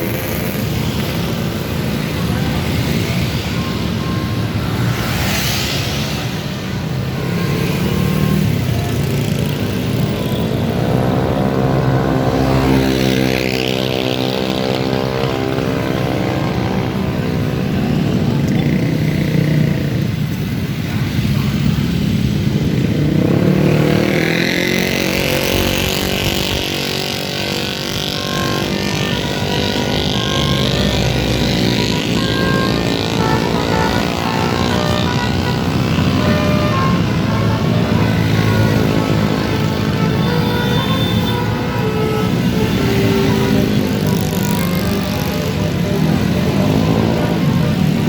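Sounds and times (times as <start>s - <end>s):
heavy vehicle engine passing: 0.0s - 19.9s, 22.0s - 48.0s
road traffic passing: 0.0s - 48.0s.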